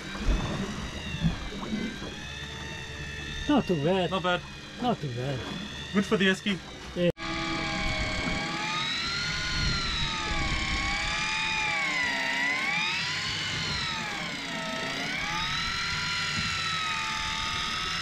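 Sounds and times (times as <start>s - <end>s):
electric fishing reel motor whining: 0.0s - 18.0s.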